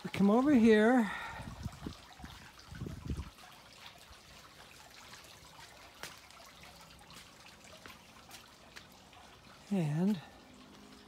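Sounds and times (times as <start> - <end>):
fountain trickling into basin: 0.0 - 11.0
water drips and splashes: 0.0 - 11.0.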